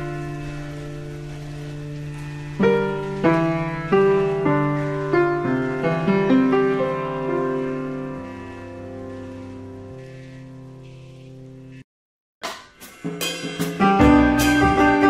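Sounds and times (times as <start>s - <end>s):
slow piano notes: 0.0s - 11.8s, 13.7s - 15.0s.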